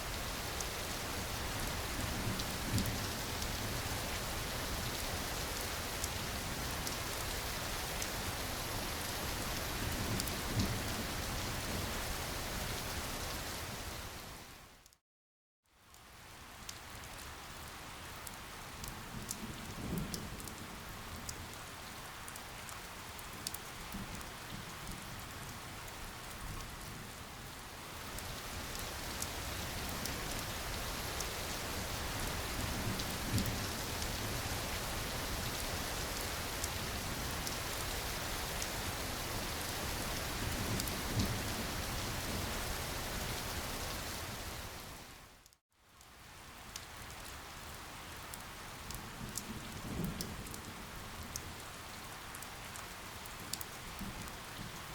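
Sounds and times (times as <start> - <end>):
steady rain falling: 0.0 - 15.0, 15.7 - 54.9.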